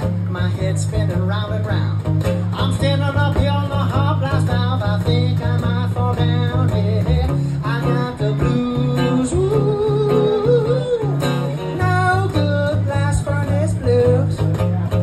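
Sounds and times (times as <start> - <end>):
electric guitar blues: 0.0 - 15.0.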